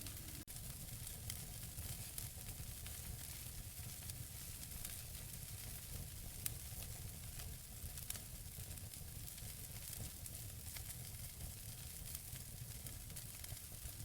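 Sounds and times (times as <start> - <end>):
low rumble of fire: 0.0 - 14.0.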